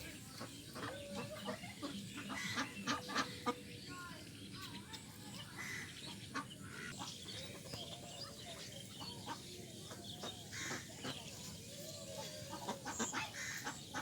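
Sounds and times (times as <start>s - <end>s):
ducks calling: 0.3s - 3.6s, 5.6s - 14.0s.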